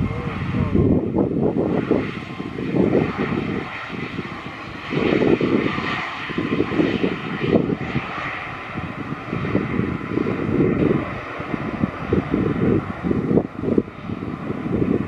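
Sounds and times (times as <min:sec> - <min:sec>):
runway rumble: 0:00.0 - 0:05.7, 0:06.3 - 0:15.0
jet engines whining: 0:00.0 - 0:15.0.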